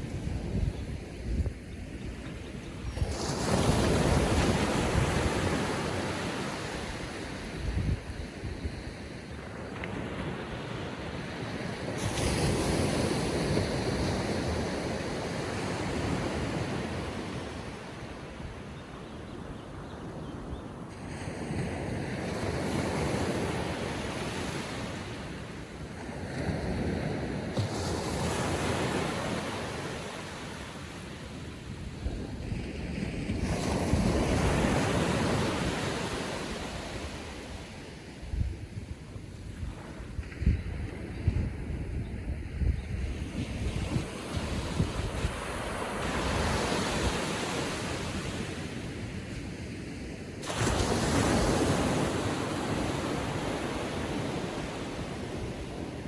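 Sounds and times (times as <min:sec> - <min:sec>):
small ocean waves breaking: 0:02.3 - 0:07.6, 0:08.3 - 0:18.9, 0:20.8 - 0:41.8, 0:43.0 - 0:56.0.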